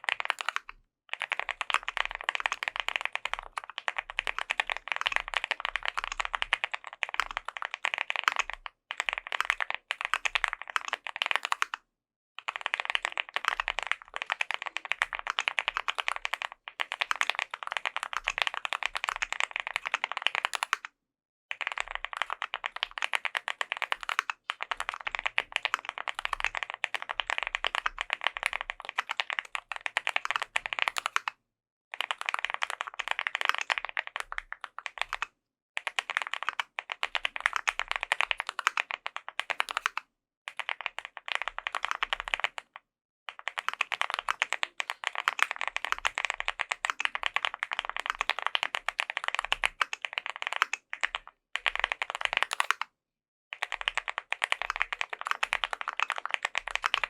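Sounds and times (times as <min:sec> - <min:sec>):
fast mechanical keyboard typing: 0:00.0 - 0:11.8, 0:12.4 - 0:20.9, 0:21.5 - 0:31.3, 0:31.9 - 0:52.9, 0:53.5 - 0:57.0.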